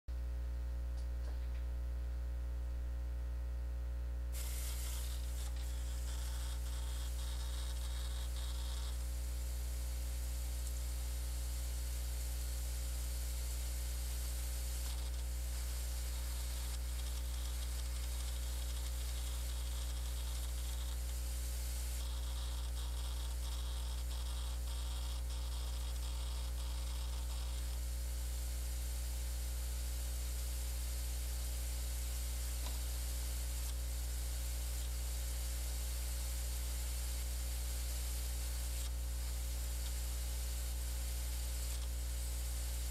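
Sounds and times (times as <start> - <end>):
hard disk drives humming: 0.5 - 42.9.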